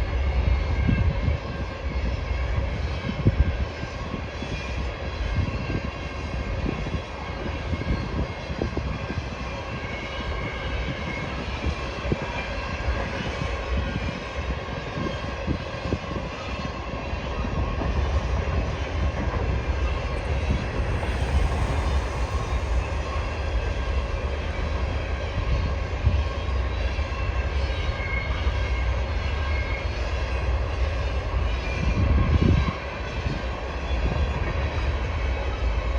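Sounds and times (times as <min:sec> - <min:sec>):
freight train wheels rumbling: 0:00.0 - 0:35.9.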